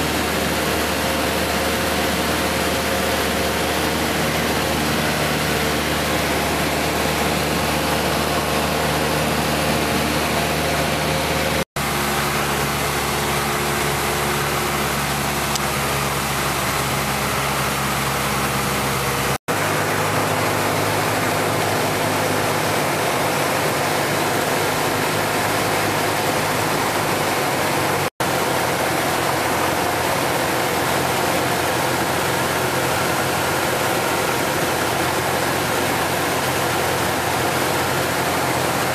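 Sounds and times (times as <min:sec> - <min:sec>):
light aircraft engine drone: 0:00.0 - 0:38.9
rushing air: 0:00.0 - 0:38.9.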